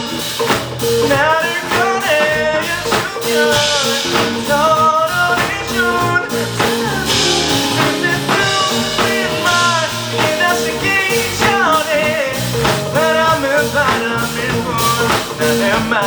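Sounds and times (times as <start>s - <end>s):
rock band playing: 0.0s - 16.0s
person singing: 0.8s - 16.0s.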